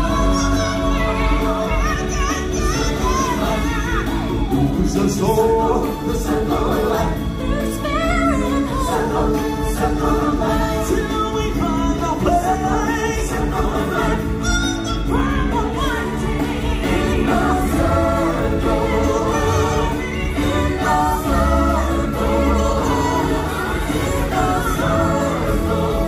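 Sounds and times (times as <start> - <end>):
stage-show music with choir: 0.0 - 26.0.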